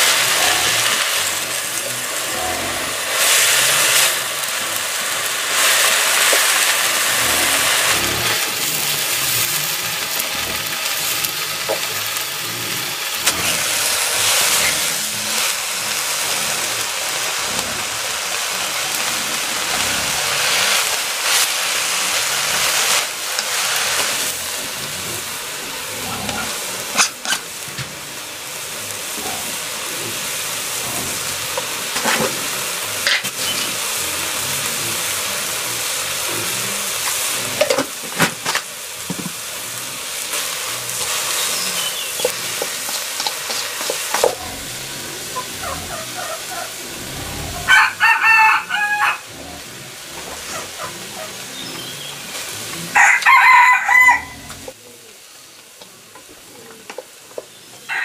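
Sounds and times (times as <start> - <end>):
spatula scraping metal wok: 0.0 - 27.9, 29.0 - 47.7
greens sizzling in a wok: 0.0 - 58.0.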